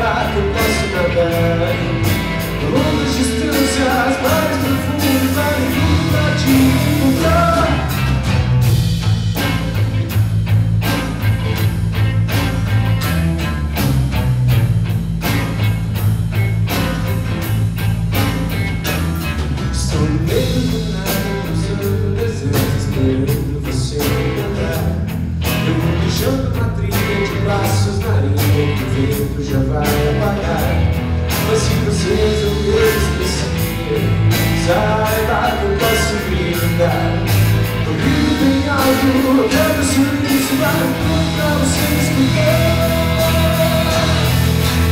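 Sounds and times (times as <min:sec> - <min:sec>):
bass guitar: 0:00.0 - 0:44.9
drum kit: 0:00.0 - 0:44.9
electric and acoustic guitars: 0:00.0 - 0:44.9
melodic lead line: 0:00.0 - 0:44.9.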